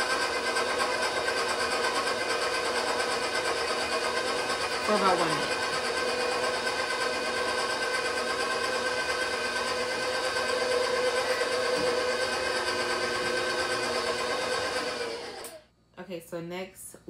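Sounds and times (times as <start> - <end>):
stand mixer motor whine: 0.0 - 15.6.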